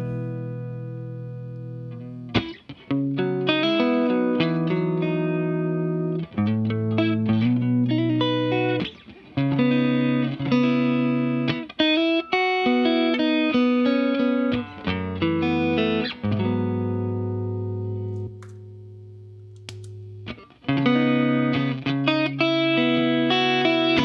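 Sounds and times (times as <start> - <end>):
clean electric guitar playing: 0.0 - 24.0.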